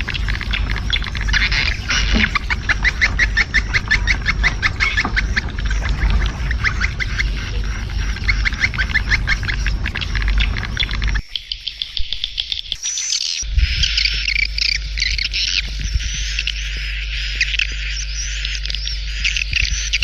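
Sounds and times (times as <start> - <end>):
swiftlets twittering: 0.0 - 20.0.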